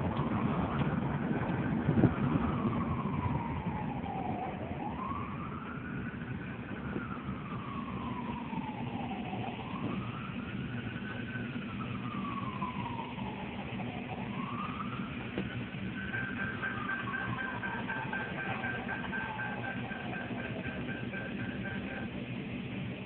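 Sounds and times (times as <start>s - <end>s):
wailing siren: 0.0s - 23.0s.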